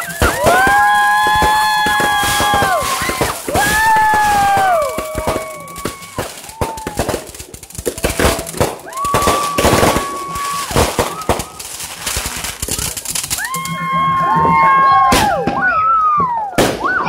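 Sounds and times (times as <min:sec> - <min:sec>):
fireworks popping and crackling: 0:00.0 - 0:17.0.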